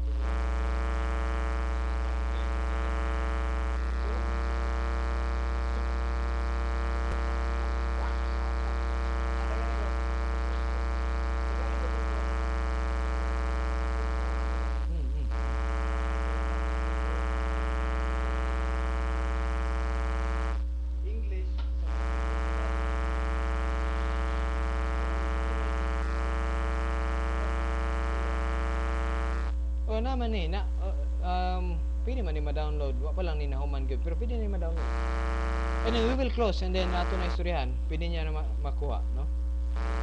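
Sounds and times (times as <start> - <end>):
electrical mains hum and buzz: 0.0 - 40.0.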